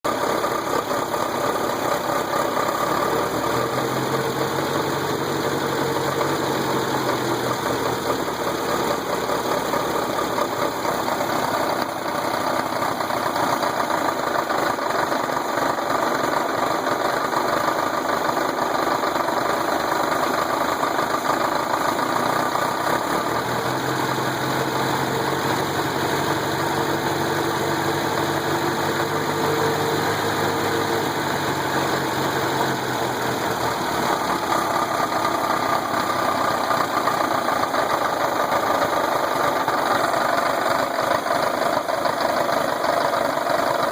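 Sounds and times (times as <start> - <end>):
car engine running with knock: 0.1 - 43.9.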